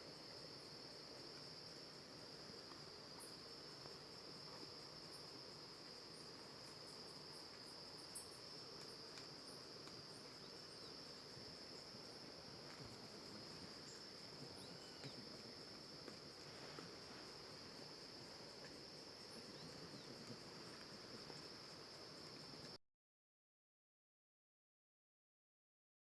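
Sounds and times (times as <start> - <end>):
insects trilling: 0.1 - 22.8.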